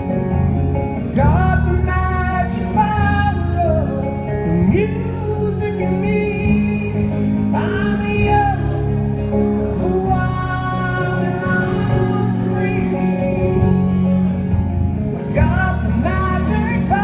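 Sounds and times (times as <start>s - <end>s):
amplified electric guitars playing chords: 0.0s - 17.0s
man singing lead vocal: 1.0s - 14.2s, 15.1s - 17.0s.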